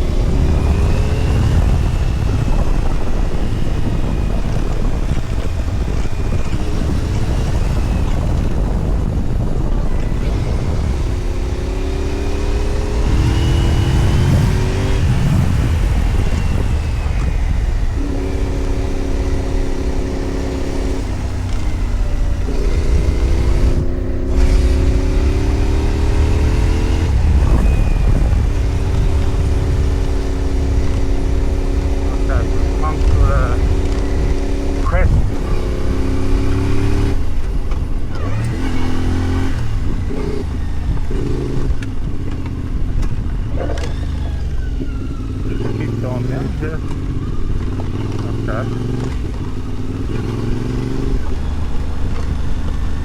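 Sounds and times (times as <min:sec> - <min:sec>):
low wind rumble: 0:00.0 - 0:53.0
motorcycle engine accelerating: 0:00.0 - 0:53.0.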